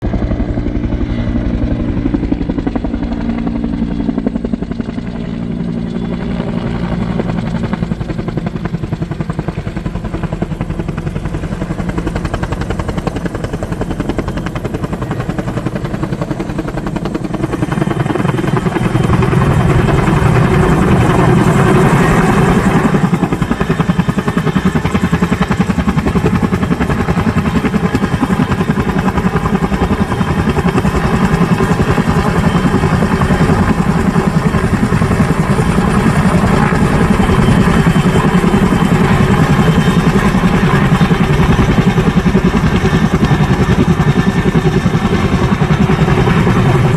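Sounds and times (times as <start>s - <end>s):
helicopter rotor beat: 0.0s - 46.9s.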